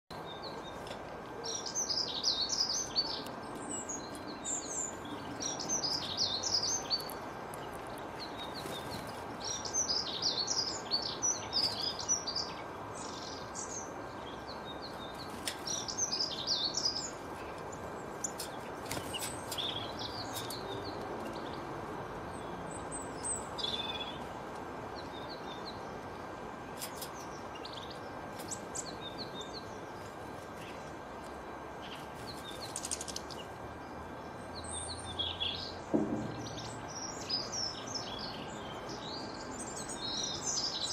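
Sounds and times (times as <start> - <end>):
songbirds twittering: 0.1 - 40.9
steady background noise: 0.1 - 40.9.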